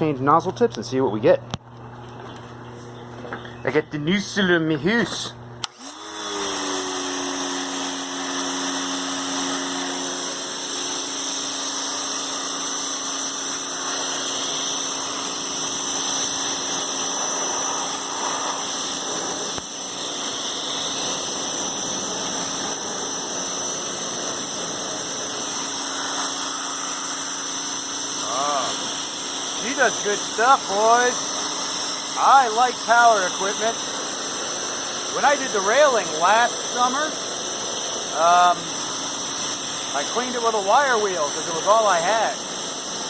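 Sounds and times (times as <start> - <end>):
pressure washer motor hum: 0.0 - 43.0
water spraying hiss: 6.7 - 43.0.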